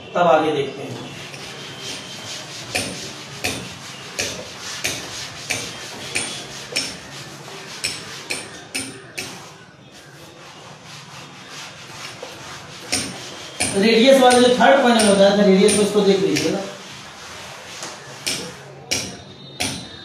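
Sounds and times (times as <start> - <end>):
cloth wiping blackboard: 1.1 - 8.3, 9.3 - 18.3.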